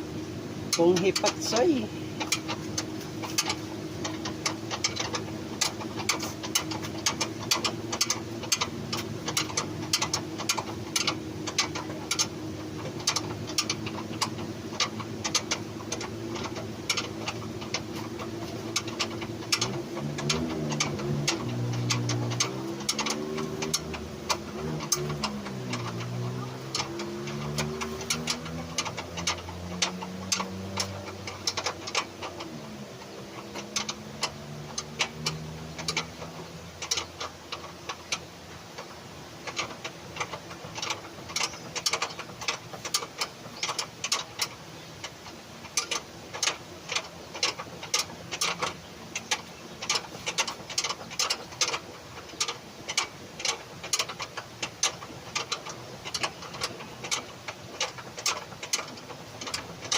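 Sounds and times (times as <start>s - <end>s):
low engine hum: 0.0s - 59.9s
ratchet wrench clicking: 0.7s - 59.9s.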